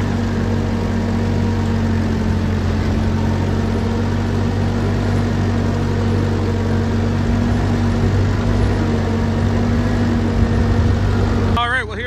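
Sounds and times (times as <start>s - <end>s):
second tractor engine: 0.0s - 12.0s
tractor engine running: 0.0s - 12.0s.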